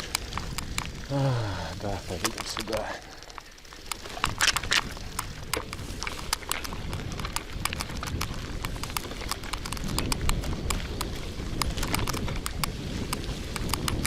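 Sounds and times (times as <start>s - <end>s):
bicycle clicks and rattles: 0.0s - 14.0s
tyres rumbling on dirt: 0.0s - 14.0s.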